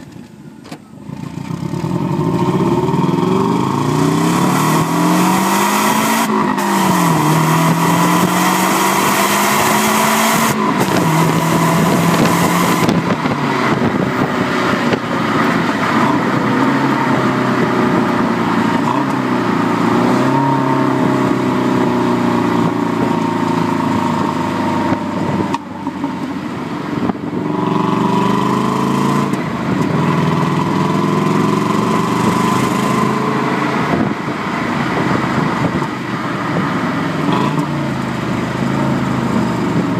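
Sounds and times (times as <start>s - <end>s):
car exhaust revving through gears: 1.1s - 39.9s.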